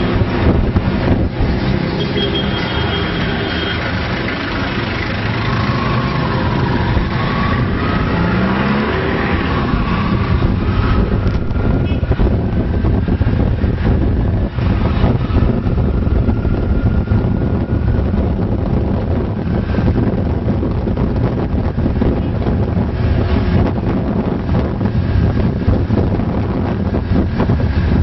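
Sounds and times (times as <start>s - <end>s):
highway road noise: 0.0s - 28.0s
jeepney engine alongside: 0.0s - 28.0s.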